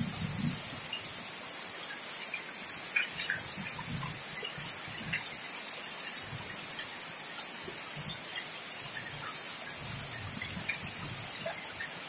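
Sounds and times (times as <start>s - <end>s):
rain falling on trees: 0.0s - 12.0s
raindrops ticking close by: 0.1s - 12.0s.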